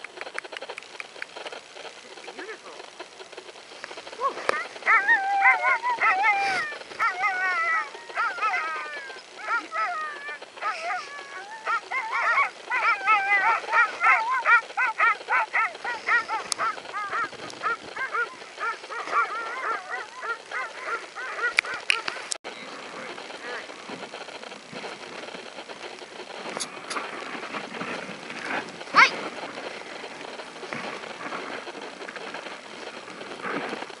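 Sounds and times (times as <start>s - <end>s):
sled dogs yelping and whining: 4.0s - 23.7s, 24.8s - 33.9s.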